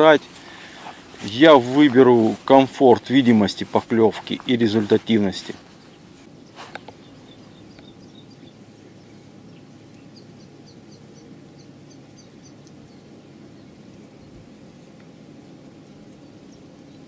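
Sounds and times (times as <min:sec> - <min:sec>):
low background rumble: 0:00.0 - 0:17.0
songbird chirping: 0:00.0 - 0:17.0.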